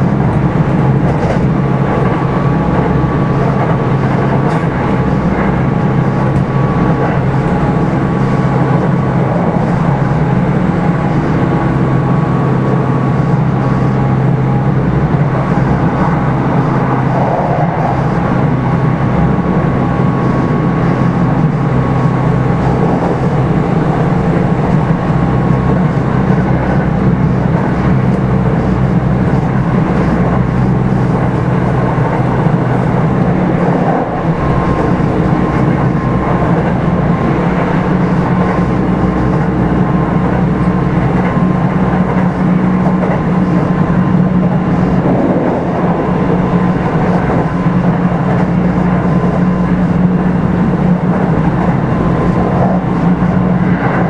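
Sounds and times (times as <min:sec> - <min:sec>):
electric train rumbling on rails: 0:00.0 - 0:54.0.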